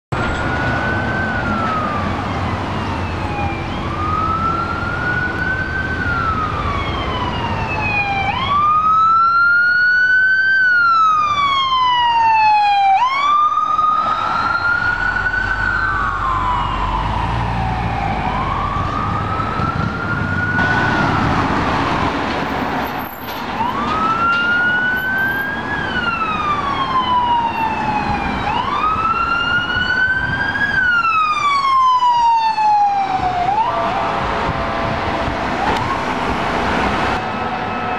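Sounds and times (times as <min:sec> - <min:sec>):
traffic noise: 0:00.1 - 0:37.9
wailing sirens: 0:00.1 - 0:37.9.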